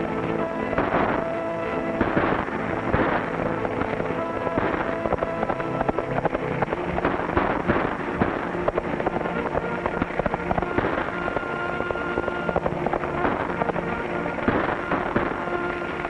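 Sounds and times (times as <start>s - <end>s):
film music with held notes: 0.0s - 16.0s
horse hoofbeats galloping: 2.0s - 16.0s.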